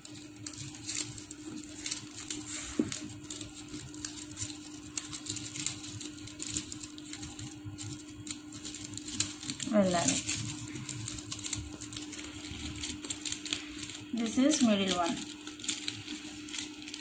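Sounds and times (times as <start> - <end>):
paper rustling and crinkling: 0.0 - 17.0
steady low hum: 0.0 - 17.0.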